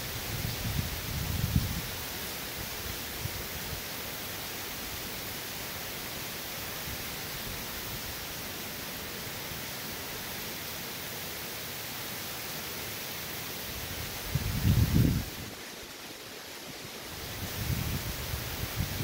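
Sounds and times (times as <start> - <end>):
heavy wind-driven rain: 0.0 - 19.0.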